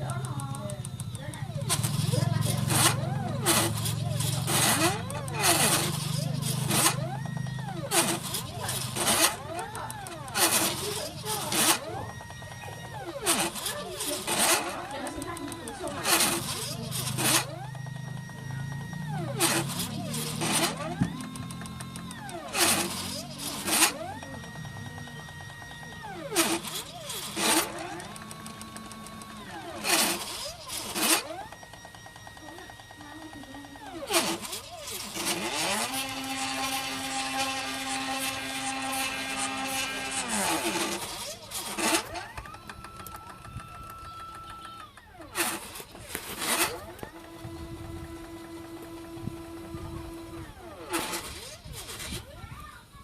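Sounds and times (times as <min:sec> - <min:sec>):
sharp machine clicks: 0:00.0 - 0:53.0
stepper motor whine: 0:00.0 - 0:53.0.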